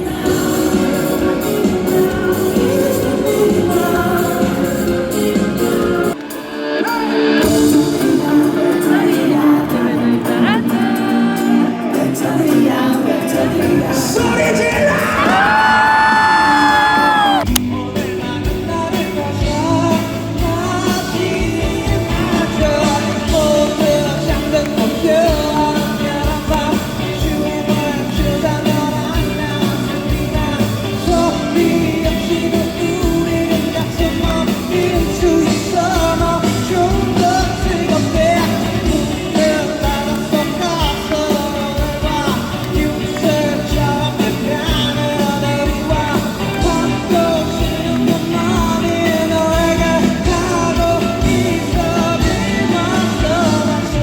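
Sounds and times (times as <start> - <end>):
live concert music: 0.0 - 54.0
person singing: 0.0 - 54.0.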